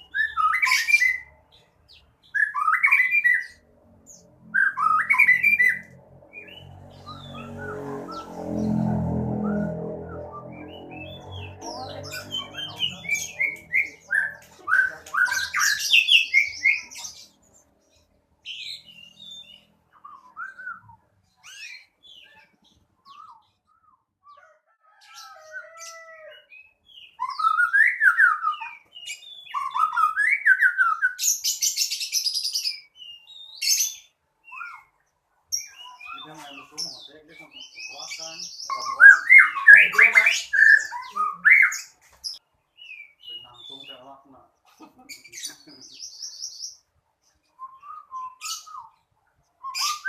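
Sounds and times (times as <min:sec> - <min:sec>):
songbird singing trills: 0:00.0 - 0:44.5, 0:45.1 - 0:50.0.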